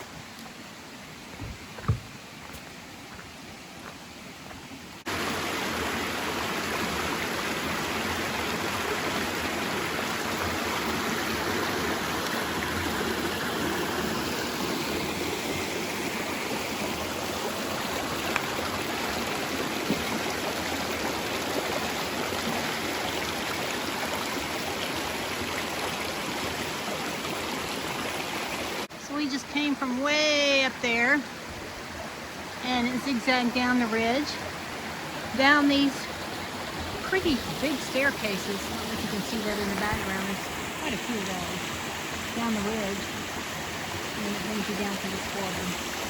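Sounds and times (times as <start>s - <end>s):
creek water rushing over cascades: 0.0s - 46.0s
faint water sound: 0.0s - 46.0s.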